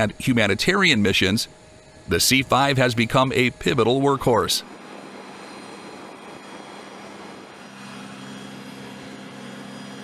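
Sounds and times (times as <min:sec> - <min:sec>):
aircraft turbine engines running: 0:00.0 - 0:10.0
low steady hum: 0:00.0 - 0:10.0.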